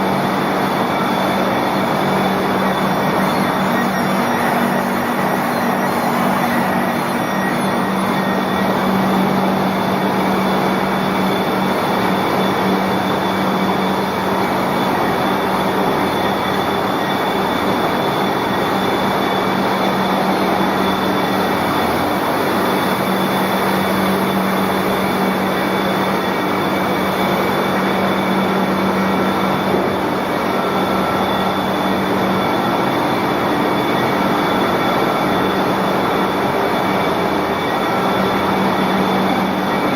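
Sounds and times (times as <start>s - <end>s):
production line machinery hum: 0.0s - 39.9s.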